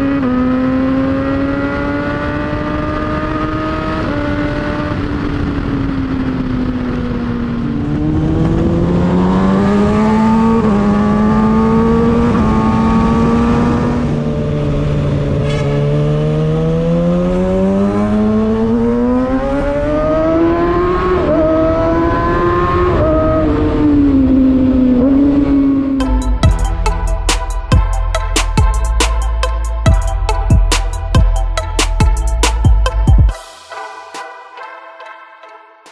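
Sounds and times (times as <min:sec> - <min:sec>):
motorcycle engine revving: 0:00.0 - 0:33.3.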